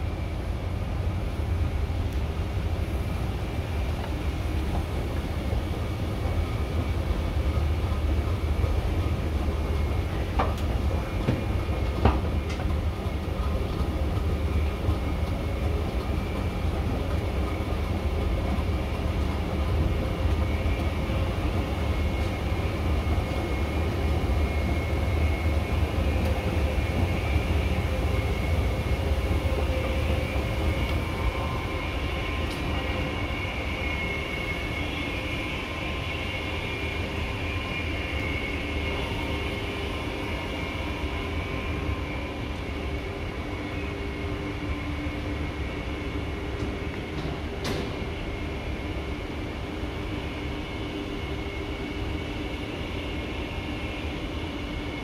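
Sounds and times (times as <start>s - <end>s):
machinery rumble with whine: 0.0s - 55.0s.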